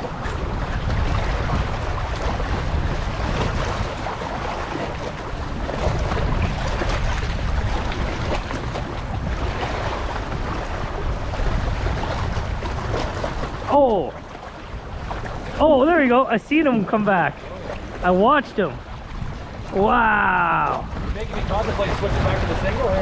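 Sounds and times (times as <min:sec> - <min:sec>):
river water lapping: 0:00.0 - 0:23.0
wind buffeting microphone: 0:00.0 - 0:23.0.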